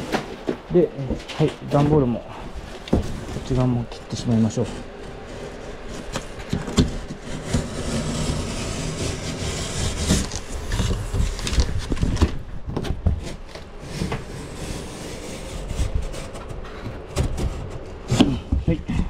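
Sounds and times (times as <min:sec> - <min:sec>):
cardboard scraping and rustling: 0:00.0 - 0:18.5.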